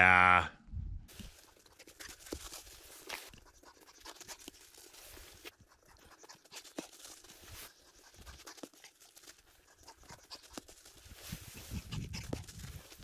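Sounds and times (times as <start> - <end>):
dog paws running on sandy ground: 1.1 - 13.0.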